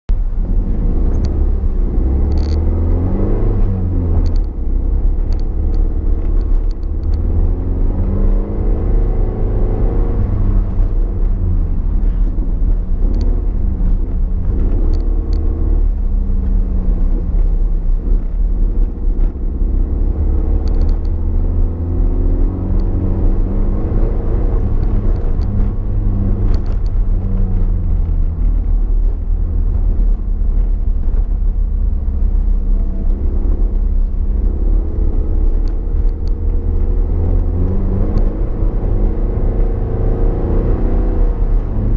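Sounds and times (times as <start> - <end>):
low road rumble: 0.0 - 41.9
car engine revving: 0.2 - 41.9.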